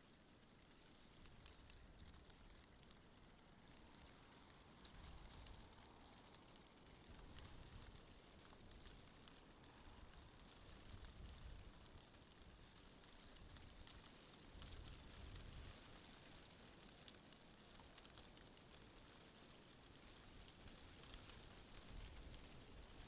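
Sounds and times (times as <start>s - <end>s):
light ticking and crackling: 0.0s - 23.0s.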